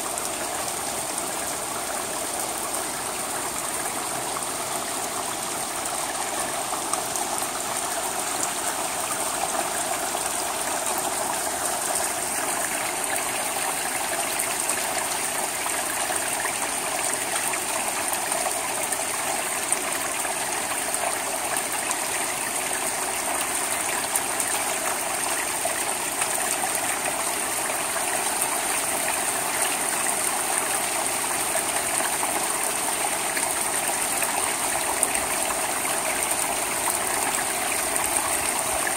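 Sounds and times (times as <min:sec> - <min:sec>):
rain on a shingle roof: 0:00.0 - 0:38.9.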